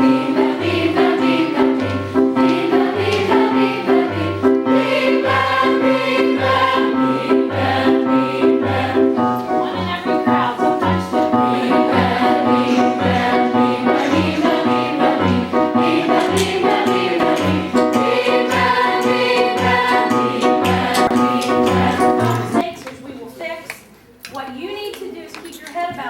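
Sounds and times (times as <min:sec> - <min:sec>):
choir singing with instruments: 0:00.0 - 0:22.6.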